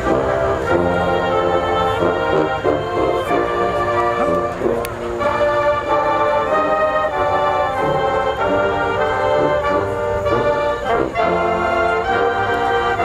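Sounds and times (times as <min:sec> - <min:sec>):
brass section playing chords: 0:00.0 - 0:13.0.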